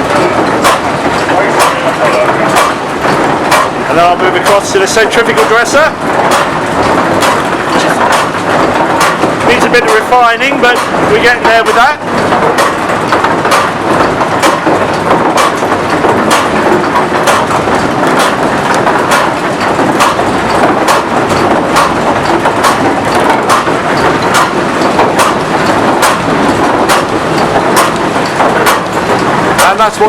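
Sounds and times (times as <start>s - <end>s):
wooden mill machinery clatter: 0.0s - 30.0s.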